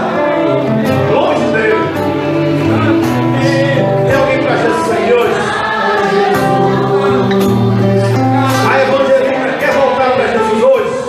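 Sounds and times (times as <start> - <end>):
instrumental accompaniment: 0.0 - 11.0
voices singing a hymn: 0.0 - 11.0.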